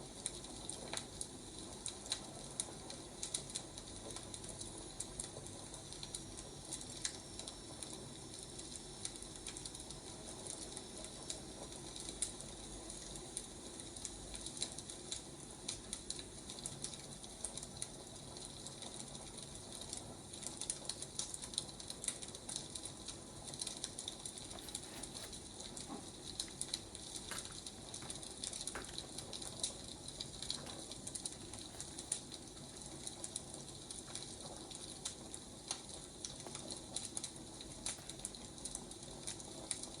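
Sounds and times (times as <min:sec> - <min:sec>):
wood fire crackling and popping: 0:00.0 - 0:40.0
fire hissing: 0:05.5 - 0:40.0.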